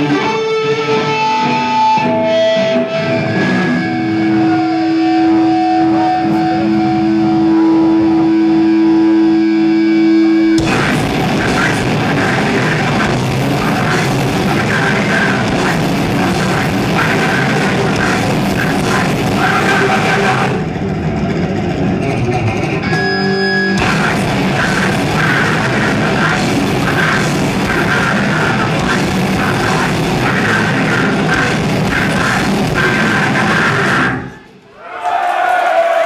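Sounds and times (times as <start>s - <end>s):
loud fast hardcore band playing: 0.0s - 34.5s
distorted electric guitar ringing: 0.0s - 34.6s.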